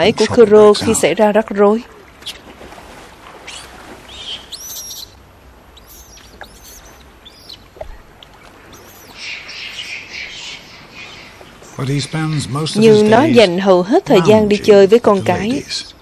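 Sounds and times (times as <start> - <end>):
birds chirping: 0.0 - 2.5, 3.2 - 16.0.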